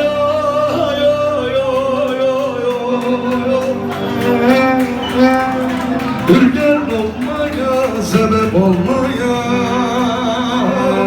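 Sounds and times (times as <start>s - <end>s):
folk music instrumental backing: 0.0s - 11.0s
man singing a long wavering note: 0.0s - 11.0s.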